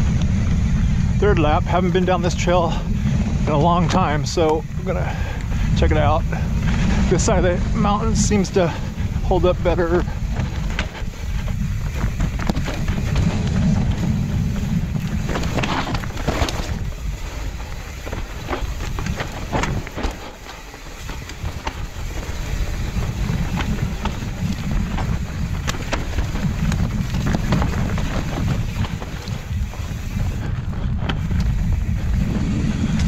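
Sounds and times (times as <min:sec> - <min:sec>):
wind rumble on microphone: 0:00.0 - 0:33.0
bike clicks and knocks: 0:02.2 - 0:33.0.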